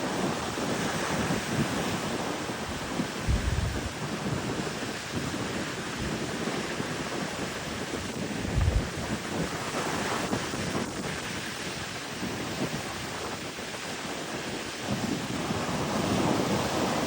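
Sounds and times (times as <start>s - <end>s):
ocean surf washing up beach: 0.0s - 17.0s
wind buffeting microphone: 0.0s - 17.0s.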